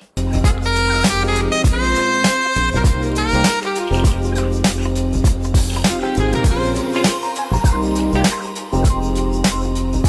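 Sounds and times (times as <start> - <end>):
jazzy background music: 0.0 - 10.0.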